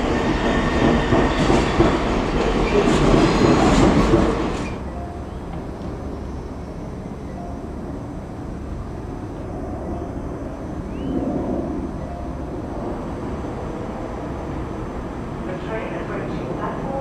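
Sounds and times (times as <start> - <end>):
distant jet airliner rumble: 0.0 - 17.0.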